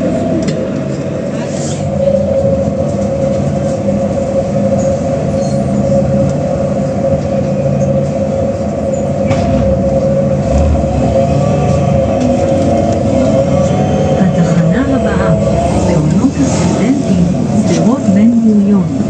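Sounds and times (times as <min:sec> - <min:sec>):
bus drivetrain hum: 0:00.0 - 0:19.0
bus transmission whine: 0:00.0 - 0:19.0.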